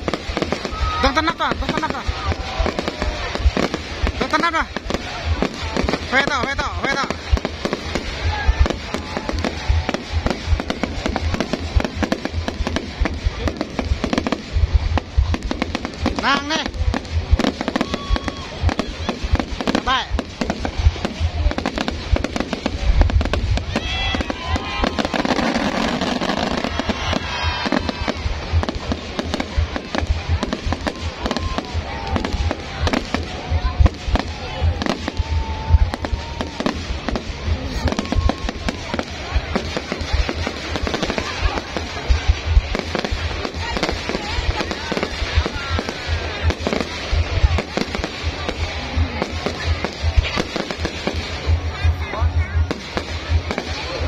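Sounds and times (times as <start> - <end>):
deep fireworks booms: 0.0 - 54.0
fireworks bangs and crackles: 0.0 - 54.0.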